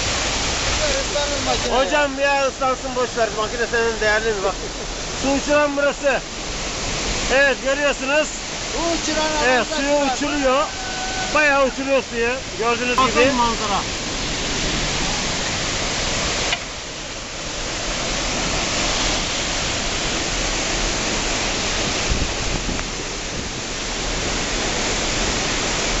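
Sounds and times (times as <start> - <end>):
waterfall roar: 0.0 - 26.0.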